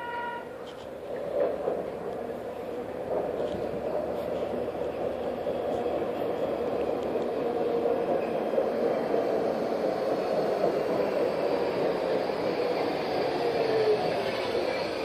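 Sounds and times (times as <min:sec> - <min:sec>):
subway train running on rails: 0:00.0 - 0:15.0.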